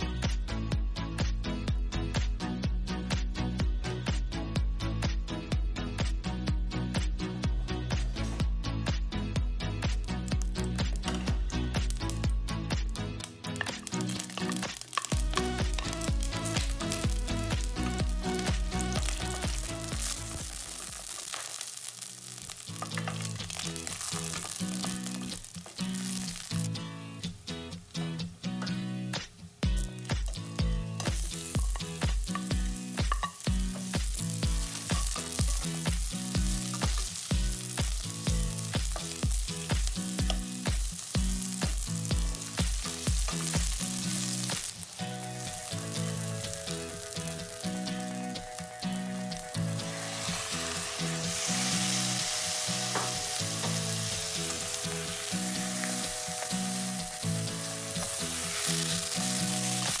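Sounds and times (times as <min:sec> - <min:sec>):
background music with steady beat: 0:00.0 - 1:00.0
onion sizzling in hot oil: 0:09.9 - 1:00.0.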